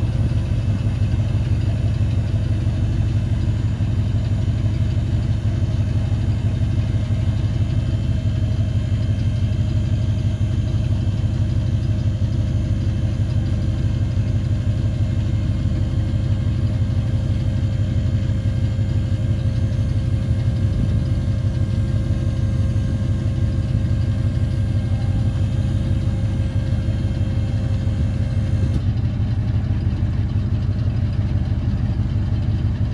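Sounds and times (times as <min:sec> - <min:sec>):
hydraulic pump whine: 0:00.0 - 0:30.1
truck engine idling: 0:00.0 - 0:32.9.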